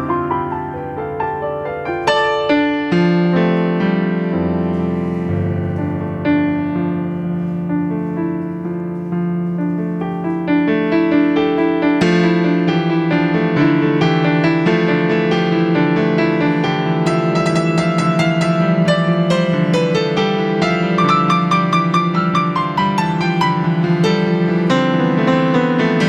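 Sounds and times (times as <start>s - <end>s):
piano playing: 0.0s - 26.0s.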